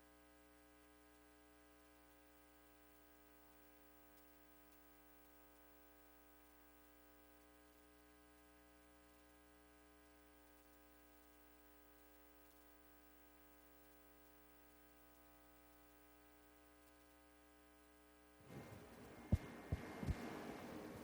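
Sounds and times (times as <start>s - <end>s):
faint electrical hum and hiss: 0.0s - 21.0s.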